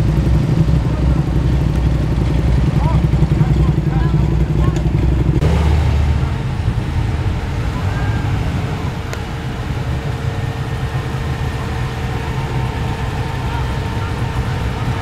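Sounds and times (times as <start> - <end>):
car engines rolling past: 0.0 - 15.0.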